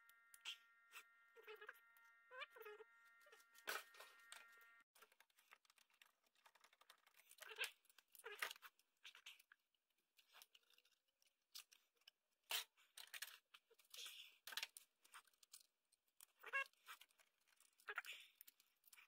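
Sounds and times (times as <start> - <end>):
computer parts clicking and scraping: 2.7 - 19.0.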